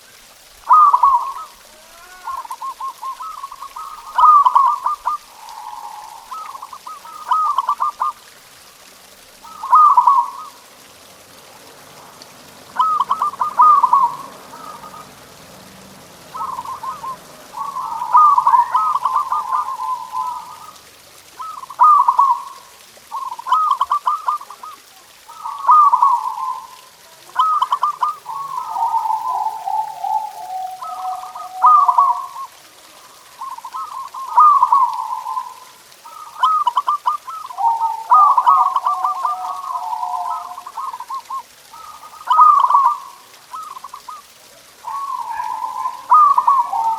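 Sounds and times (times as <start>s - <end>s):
doves cooing: 0.4s - 46.9s.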